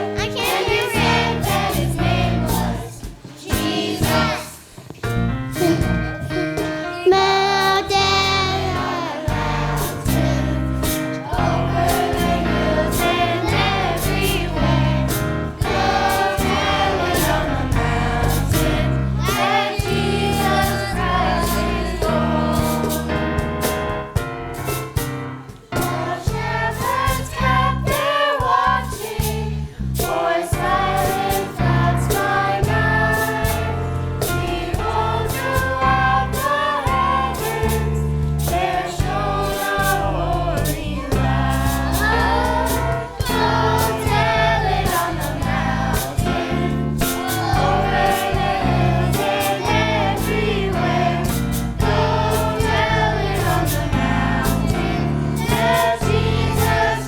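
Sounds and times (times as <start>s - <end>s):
choir singing: 0.0s - 4.8s, 5.6s - 23.6s, 25.8s - 57.0s
band playing drums and bass: 0.0s - 57.0s.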